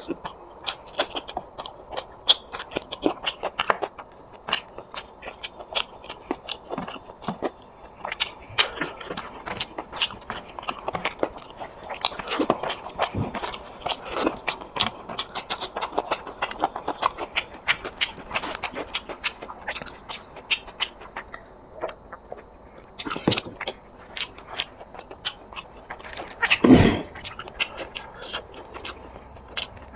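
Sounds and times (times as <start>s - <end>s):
wet chewing: 0.0s - 29.9s.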